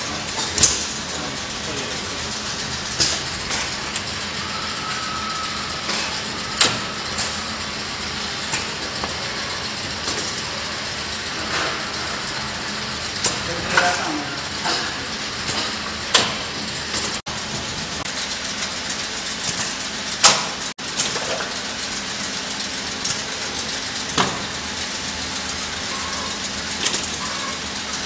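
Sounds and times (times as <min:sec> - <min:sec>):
conveyor humming and hissing: 0:00.0 - 0:28.0.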